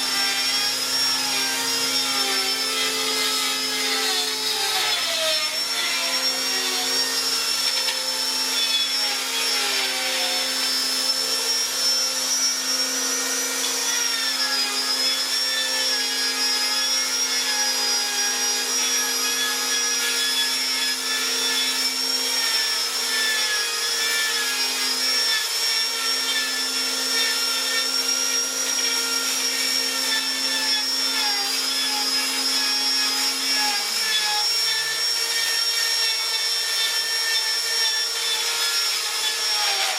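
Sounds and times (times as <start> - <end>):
power tool whining and grinding: 0.0 - 39.9.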